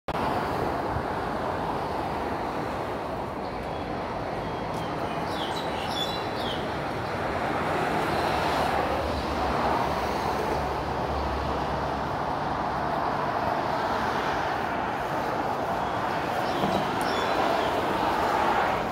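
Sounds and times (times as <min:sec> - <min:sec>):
road traffic rush: 0:00.1 - 0:18.9.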